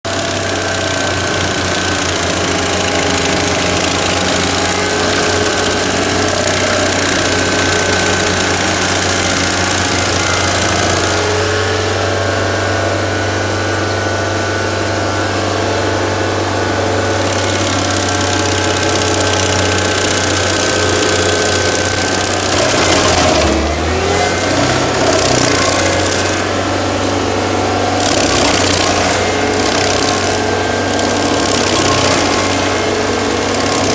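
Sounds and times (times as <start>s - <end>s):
cutter wheel grinding wood: 0.0s - 33.9s
stump grinder engine running: 0.0s - 33.9s.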